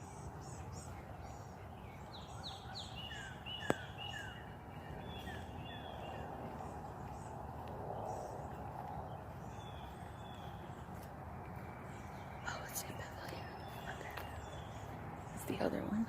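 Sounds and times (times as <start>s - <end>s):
wild birds singing: 0.0s - 16.0s.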